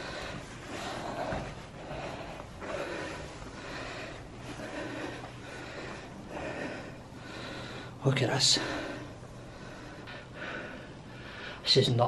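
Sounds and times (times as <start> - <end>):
man breathing hard: 0.0 - 11.6.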